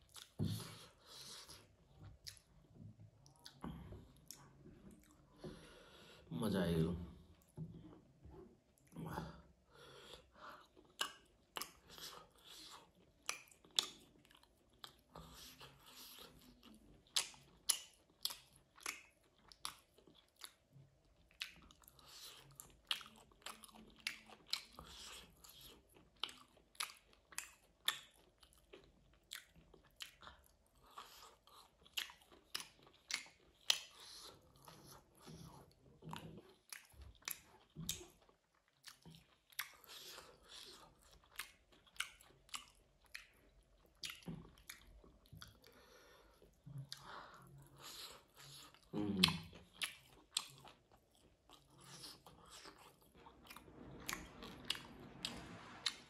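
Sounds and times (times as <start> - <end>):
person chewing food: 0.0 - 6.3, 7.3 - 56.0.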